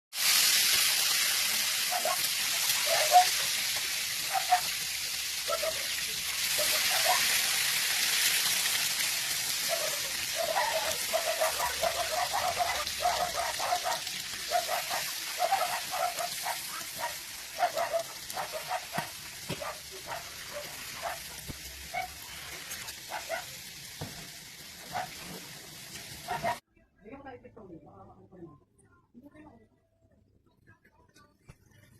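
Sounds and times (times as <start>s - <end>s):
food sizzling in a pan: 0.1s - 26.6s.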